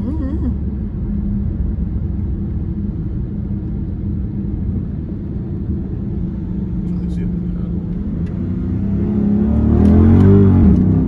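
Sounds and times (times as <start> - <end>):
car exhaust low drone: 0.0 - 11.0
road rumble: 0.0 - 11.0.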